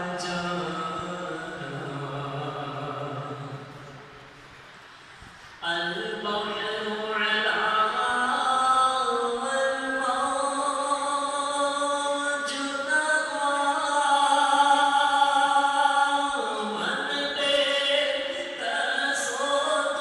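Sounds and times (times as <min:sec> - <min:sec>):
man chanting melodic recitation: 0:00.0 - 0:04.0, 0:05.6 - 0:20.0.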